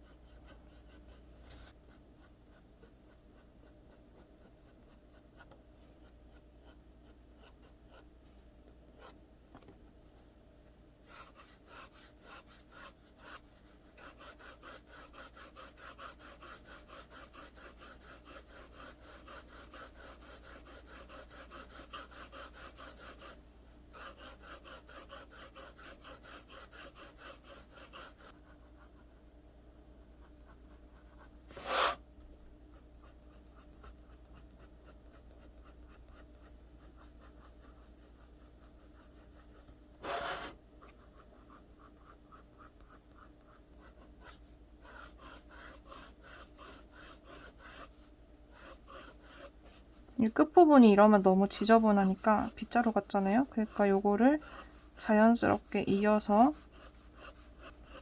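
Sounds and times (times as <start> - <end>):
pencil drawing on paper: 0.0 - 8.1, 8.9 - 9.2, 10.6 - 29.3, 29.9 - 32.0, 32.7 - 58.0.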